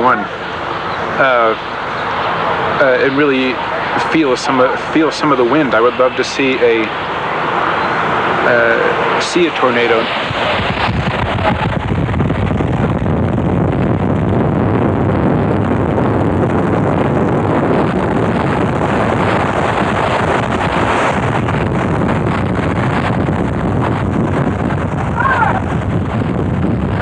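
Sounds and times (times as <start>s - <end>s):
wind and road noise: 0.0s - 27.0s
wind buffeting microphone: 0.0s - 27.0s.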